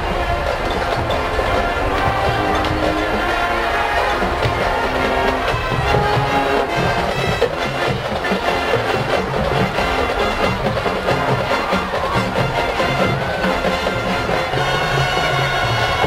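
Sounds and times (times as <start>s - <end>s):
brass ensemble holding chords: 0.0s - 16.0s
drum line beat: 0.0s - 16.0s.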